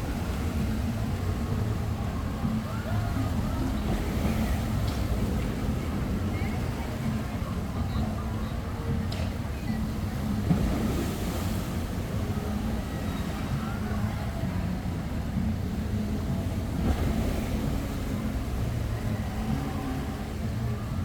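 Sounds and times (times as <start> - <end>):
boat engine humming: 0.0 - 21.0
water rushing: 0.0 - 21.0.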